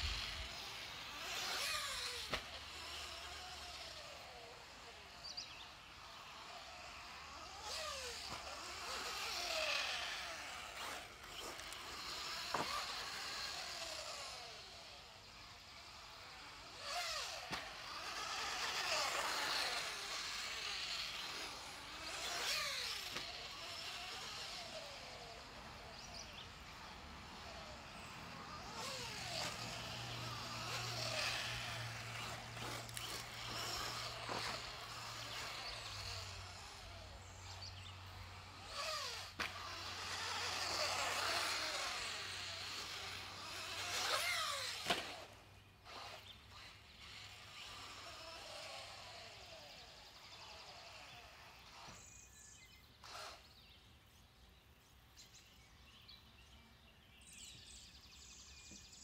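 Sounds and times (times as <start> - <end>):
rc car motor whine: 0.0 - 54.3.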